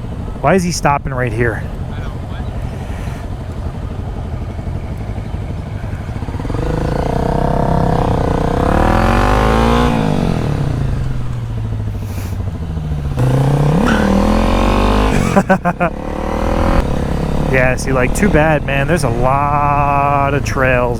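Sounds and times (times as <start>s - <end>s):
motorcycle engine revving: 1.3s - 20.9s.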